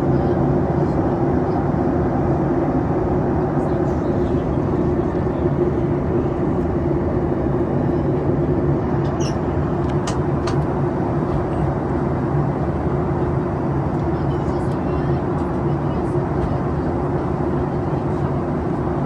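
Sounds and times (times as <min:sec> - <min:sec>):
airplane cabin air rush: 0:00.0 - 0:19.0
low engine hum: 0:00.0 - 0:19.0.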